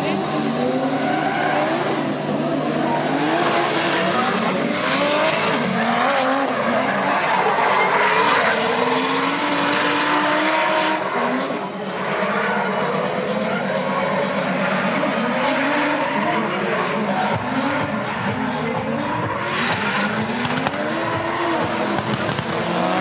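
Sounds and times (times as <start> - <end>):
car engines revving: 0.0 - 23.0
tyre screech: 0.3 - 22.0.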